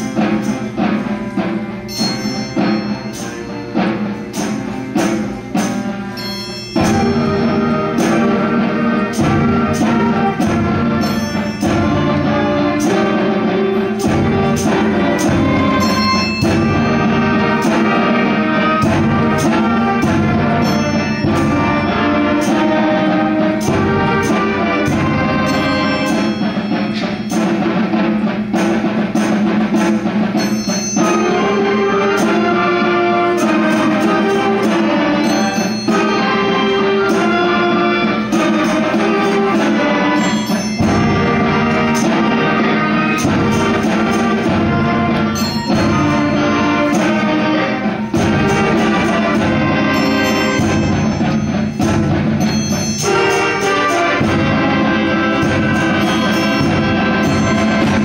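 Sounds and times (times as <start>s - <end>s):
concert band playing: 0.0s - 58.0s
drum and percussion strokes: 0.0s - 58.0s.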